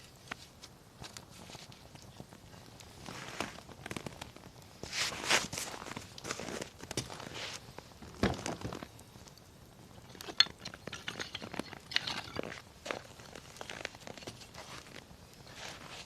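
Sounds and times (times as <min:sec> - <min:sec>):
firewood crackling: 0:00.0 - 0:16.0.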